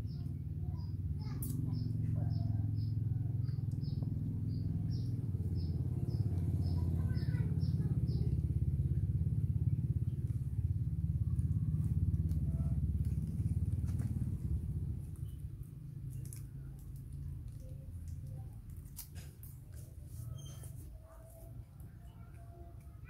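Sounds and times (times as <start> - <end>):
small engine humming: 1.2 - 21.4.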